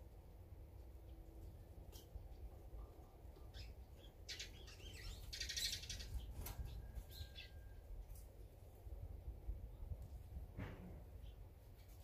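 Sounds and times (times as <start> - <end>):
songbirds chirping: 0.1 - 12.0.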